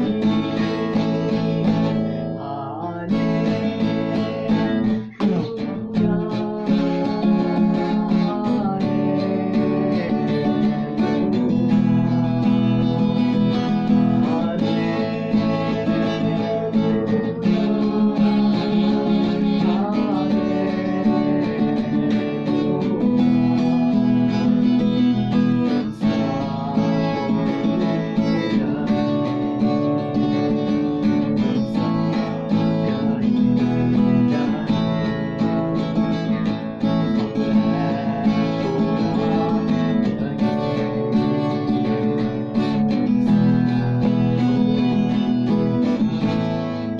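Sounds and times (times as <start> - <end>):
man singing worship song: 0.0 - 42.0
acoustic guitar strumming: 0.0 - 46.9.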